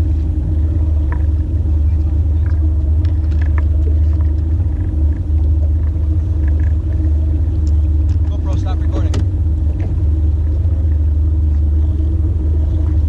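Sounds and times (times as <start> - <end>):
boat motor rumbling: 0.0 - 13.0.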